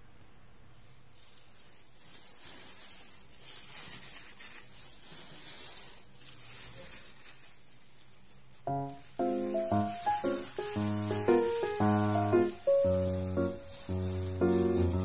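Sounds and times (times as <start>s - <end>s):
plastic glove crinkling: 0.6s - 15.0s.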